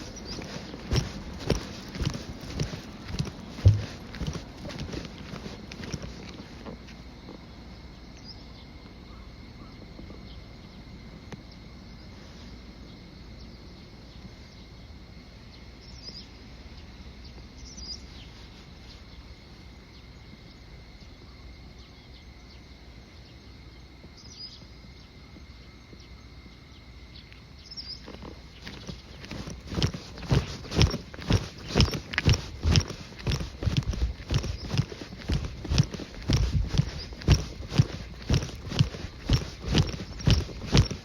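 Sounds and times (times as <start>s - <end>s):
high insect trill: 0.0s - 41.0s.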